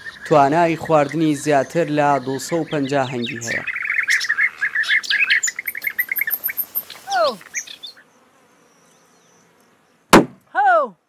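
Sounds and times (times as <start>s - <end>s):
bee-eaters chirping: 0.0s - 10.3s.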